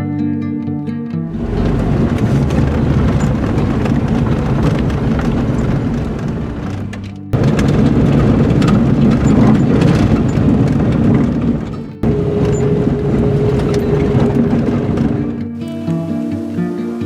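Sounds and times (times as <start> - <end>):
steady hum: 1.3 - 17.0
vehicle driving noise: 1.3 - 17.0.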